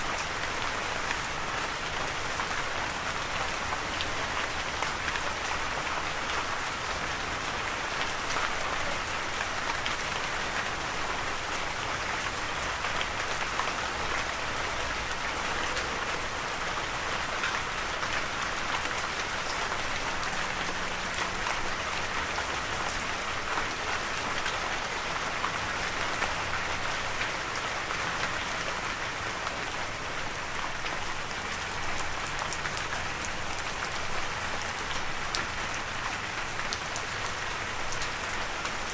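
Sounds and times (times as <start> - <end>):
rain drops ticking on hard surface: 0.0 - 38.9.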